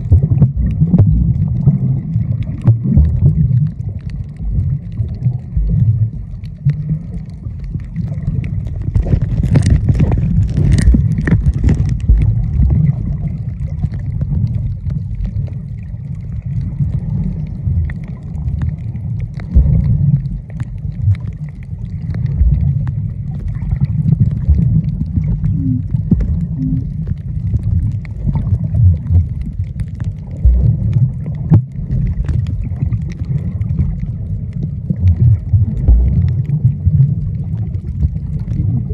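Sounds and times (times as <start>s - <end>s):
underwater water rumble: 0.0s - 38.9s.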